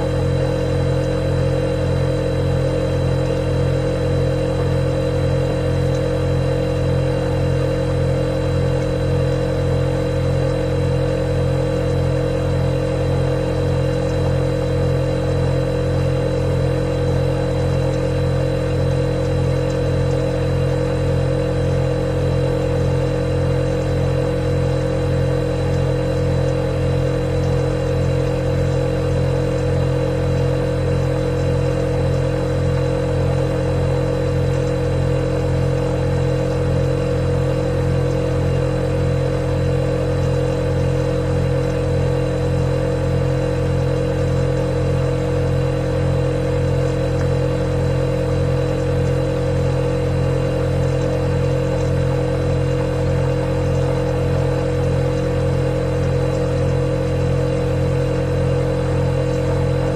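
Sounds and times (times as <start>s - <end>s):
refrigerator humming: 0.0s - 59.9s.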